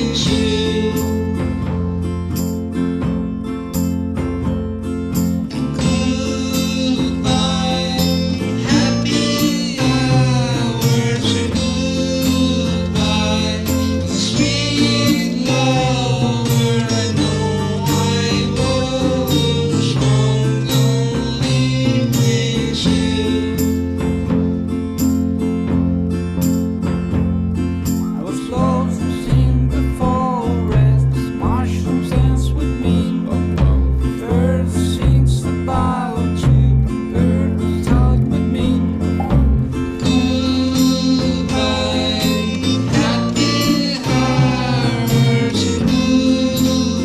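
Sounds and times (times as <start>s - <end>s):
rock band song: 0.0s - 47.0s.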